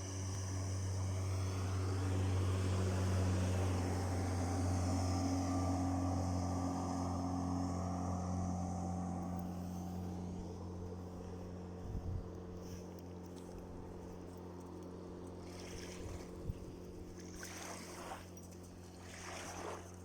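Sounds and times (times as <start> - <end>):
motorboat engine humming: 0.0 - 20.0
wind: 0.0 - 20.0.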